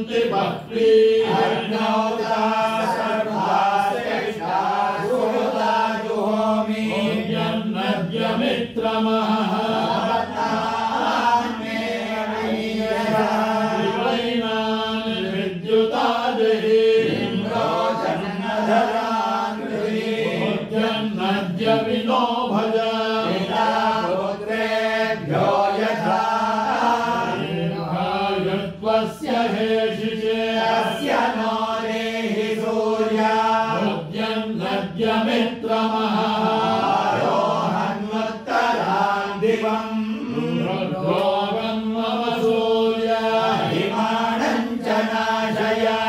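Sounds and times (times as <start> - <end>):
voices chanting: 0.0 - 46.0.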